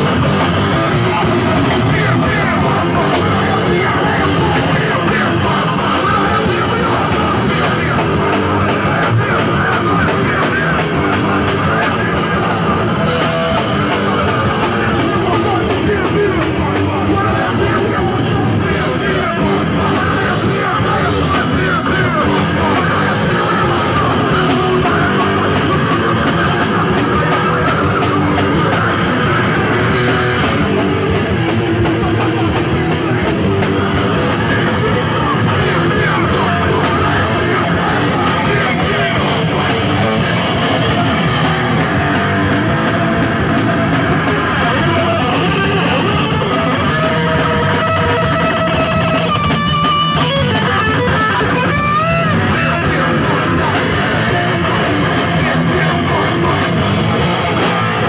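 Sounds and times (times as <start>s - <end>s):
drum kit: 0.0s - 58.0s
electric guitar: 0.0s - 58.0s
live punk rock band: 0.0s - 58.0s.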